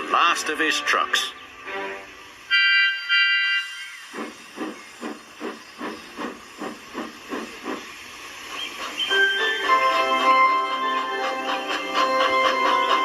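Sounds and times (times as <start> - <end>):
steam locomotive chuffing: 1.5 - 13.0.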